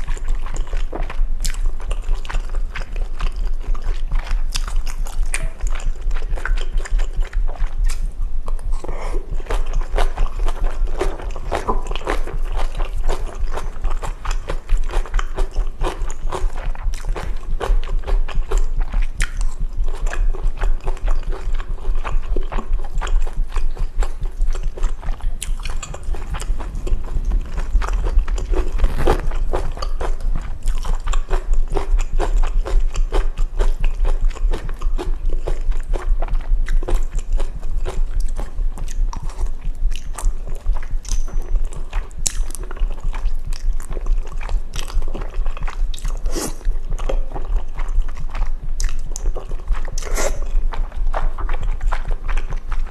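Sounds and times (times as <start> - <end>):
chewing and slurping noodles: 0.0 - 52.9
heartbeat thumping: 5.4 - 52.9.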